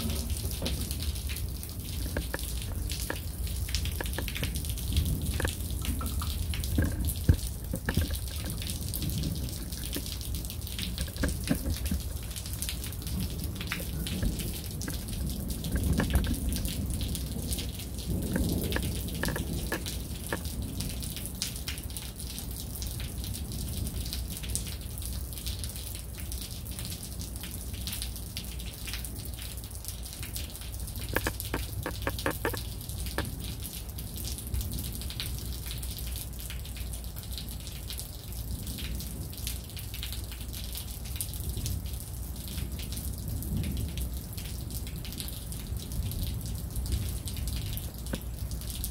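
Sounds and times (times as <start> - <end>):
raindrops tapping on surfaces: 0.0 - 48.9
steady rainfall hiss: 0.0 - 48.9.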